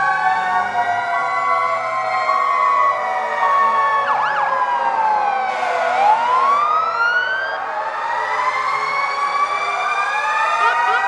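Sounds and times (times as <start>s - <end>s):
fire engine sirens wailing: 0.0s - 11.0s.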